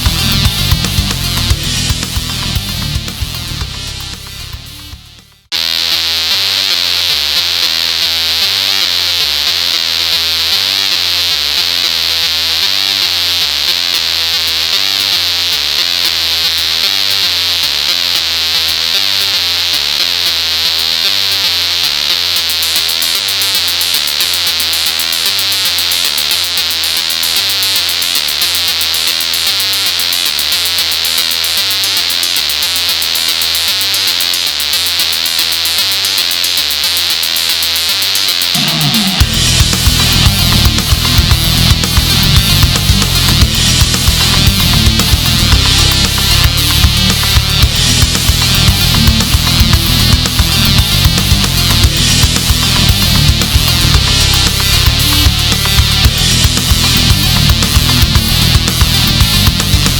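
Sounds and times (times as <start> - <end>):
electric guitar: 0.0 - 59.9
repeating bass line: 0.0 - 59.9.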